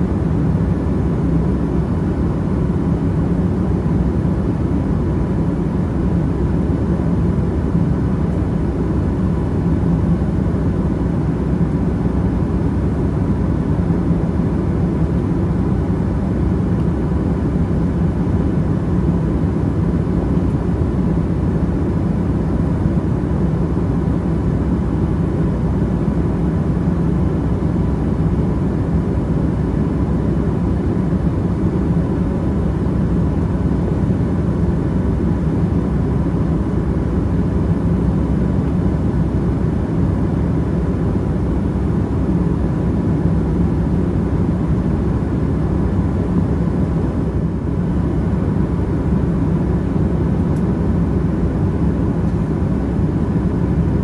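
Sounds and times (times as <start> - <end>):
airliner cabin engine noise: 0.0 - 54.0.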